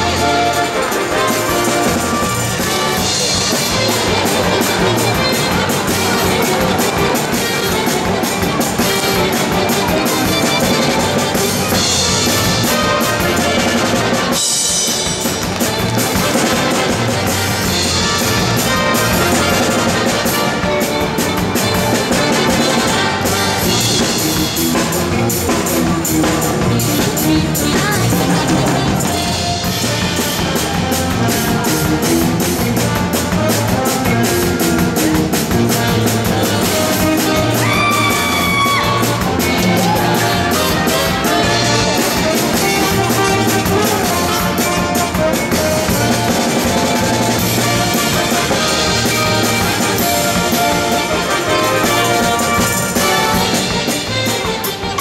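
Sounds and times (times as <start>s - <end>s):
lively circus music with drums: 0.0s - 55.0s.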